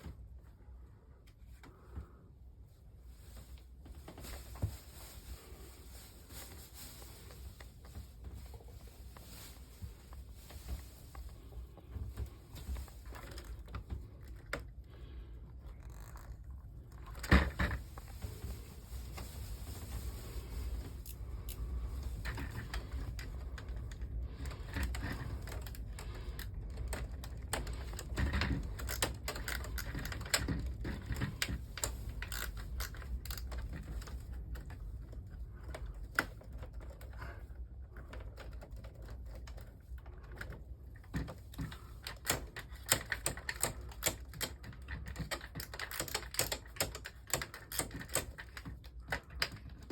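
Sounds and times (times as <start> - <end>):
plastic parts being handled: 3.2 - 49.9.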